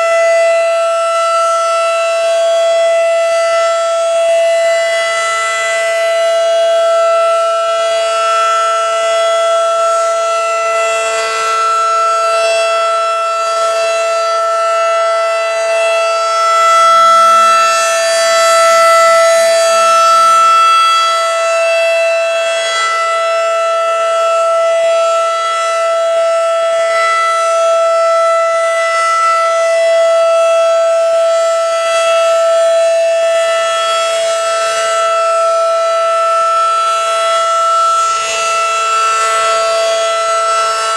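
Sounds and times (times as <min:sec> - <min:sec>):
civil defense siren steady tone: 0:00.0 - 0:40.9.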